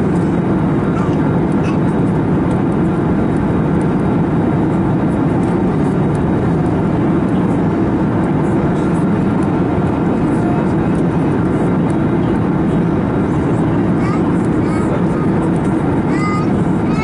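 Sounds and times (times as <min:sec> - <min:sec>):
airplane cabin drone: 0:00.0 - 0:17.0.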